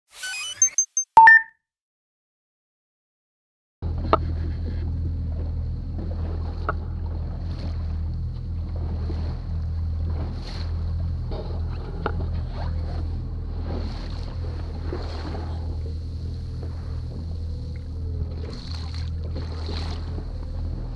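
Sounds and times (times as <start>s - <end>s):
boat engine low drone: 3.8s - 20.9s.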